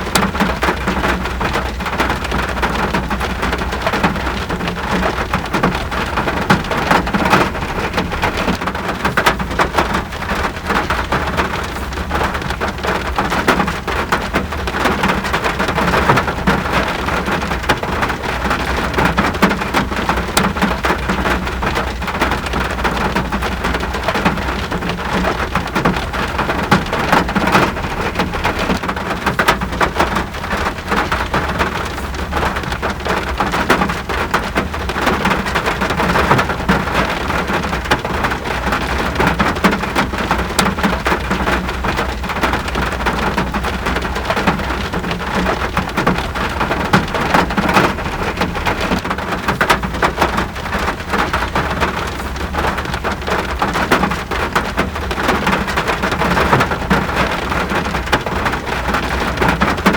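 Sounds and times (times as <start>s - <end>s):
rain patter: 0.0s - 59.9s.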